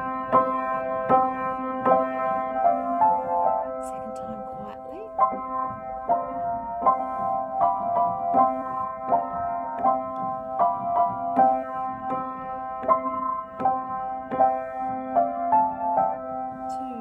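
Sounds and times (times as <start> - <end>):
upright piano duet: 0.0 - 17.0.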